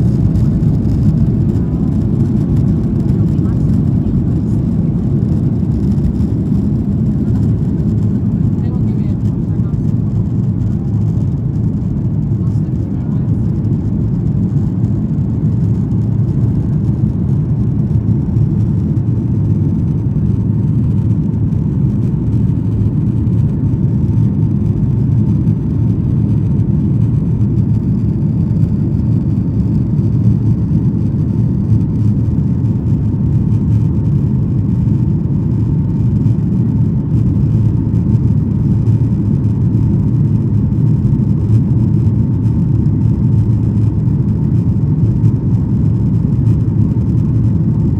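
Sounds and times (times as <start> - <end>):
faint steady whine: 0.0 - 47.9
jet engine rumble: 0.0 - 47.9.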